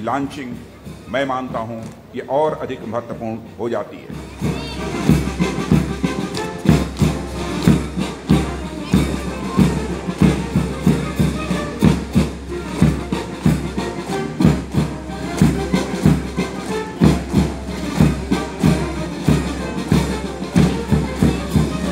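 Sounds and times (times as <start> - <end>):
music with drum beat and bass: 4.2 - 21.9.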